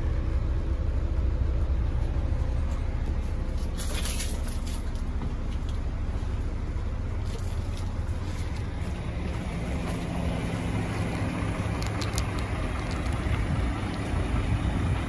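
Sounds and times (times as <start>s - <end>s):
diesel coach engine idling: 0.0s - 15.0s.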